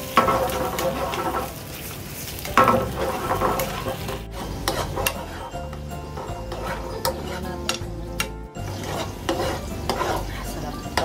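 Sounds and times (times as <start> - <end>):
metal tongs scraping a pan: 0.0 - 1.6, 2.4 - 11.0
sauce sizzling in a frying pan: 0.0 - 11.0.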